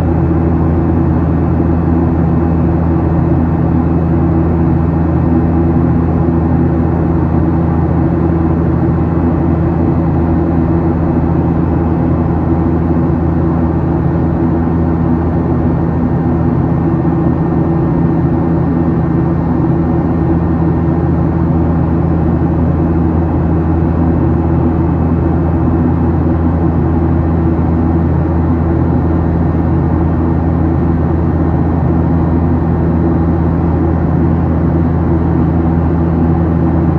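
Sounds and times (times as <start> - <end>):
airplane cabin engine drone: 0.0 - 36.9.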